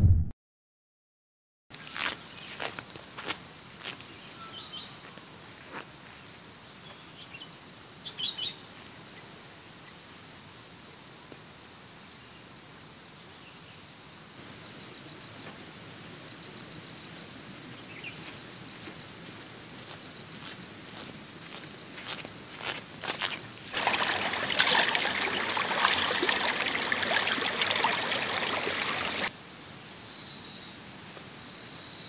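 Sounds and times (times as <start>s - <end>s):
insects droning: 1.8s - 32.0s.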